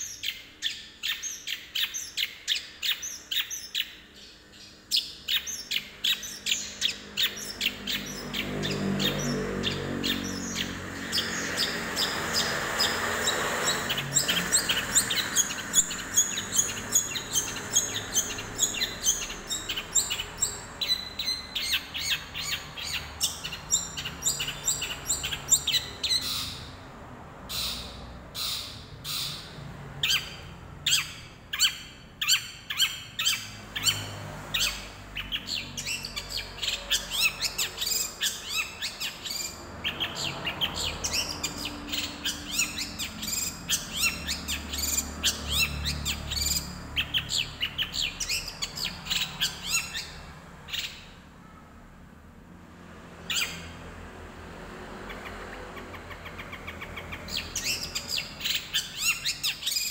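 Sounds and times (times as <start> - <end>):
bird chirping and chattering: 0.0 - 51.2, 53.0 - 59.9.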